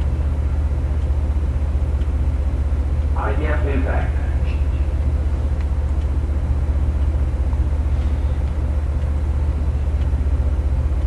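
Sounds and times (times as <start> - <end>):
low mechanical hum with flutter: 0.0 - 11.0.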